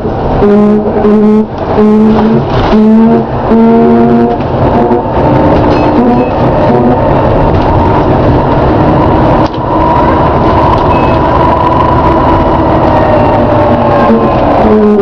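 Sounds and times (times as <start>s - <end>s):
bus engine running: 0.0s - 15.0s
drawn-out groaning tone: 0.0s - 15.0s.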